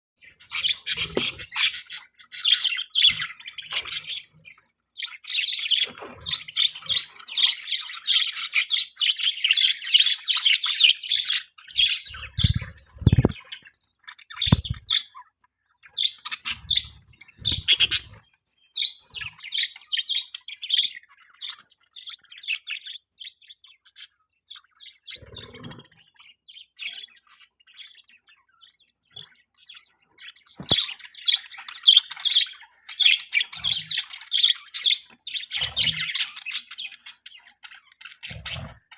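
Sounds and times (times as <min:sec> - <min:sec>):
budgerigars chattering: 0:00.2 - 0:15.2, 0:15.8 - 0:38.9.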